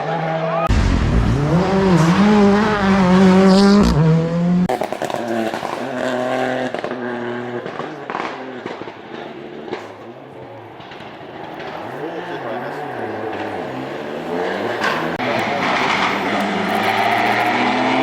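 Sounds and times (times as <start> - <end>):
rally car engine passing: 0.0 - 18.0
exhaust popping: 0.7 - 18.0.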